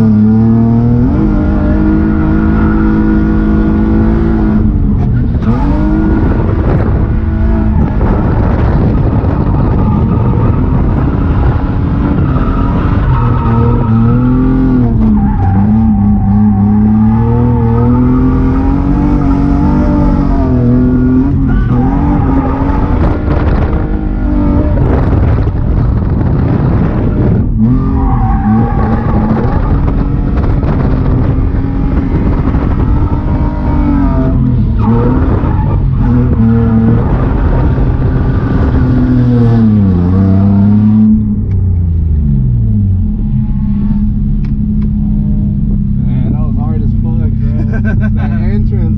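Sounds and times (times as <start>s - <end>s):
tyres skidding: 0.0s - 41.6s
car engine revving: 0.0s - 48.9s.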